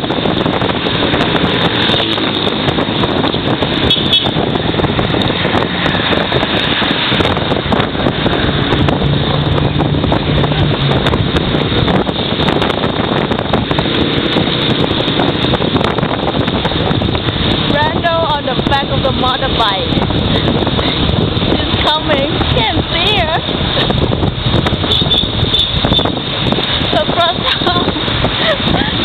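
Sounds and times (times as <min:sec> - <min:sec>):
motorbike engine: 0:00.0 - 0:29.0
street traffic: 0:00.0 - 0:29.0
wind rushing over microphone: 0:00.0 - 0:29.0.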